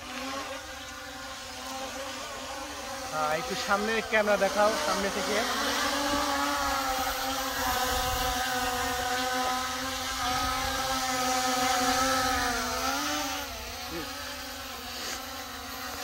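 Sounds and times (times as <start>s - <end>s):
drone propellers buzzing: 0.0s - 16.0s.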